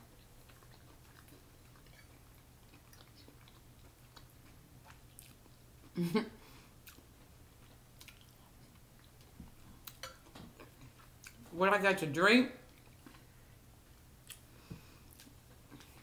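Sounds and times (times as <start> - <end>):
person chewing food: 0.0 - 11.5, 12.7 - 16.0
low steady hum: 0.0 - 16.0.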